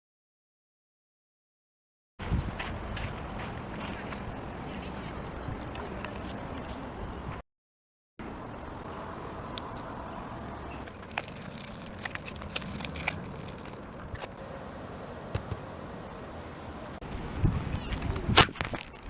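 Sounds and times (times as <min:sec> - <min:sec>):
steady background noise: 0:02.2 - 0:07.4, 0:08.2 - 0:19.0.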